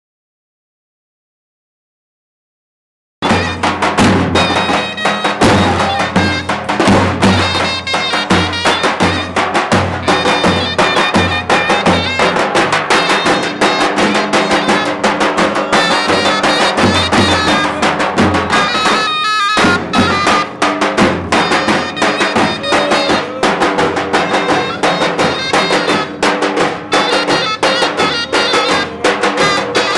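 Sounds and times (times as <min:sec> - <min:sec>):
bass drums beaten in rhythm: 0:03.2 - 0:29.9
reed pipe playing a melody: 0:03.2 - 0:29.9.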